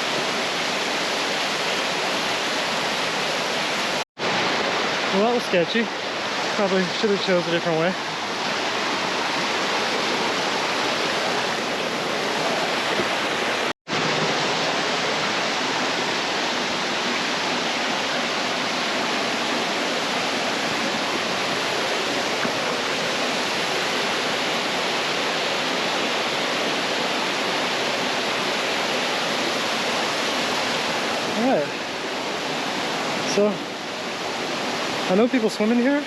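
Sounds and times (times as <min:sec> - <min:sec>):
waterfall roaring: 0:00.0 - 0:36.0.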